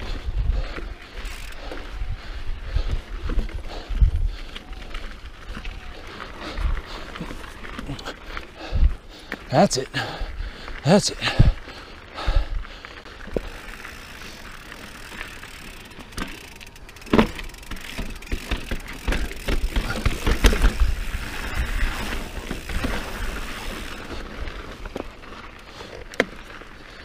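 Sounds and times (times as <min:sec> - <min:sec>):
bike rattling and knocking: 0:00.0 - 0:10.1, 0:13.2 - 0:27.0
bike tyres on dirt and rock: 0:00.0 - 0:27.0.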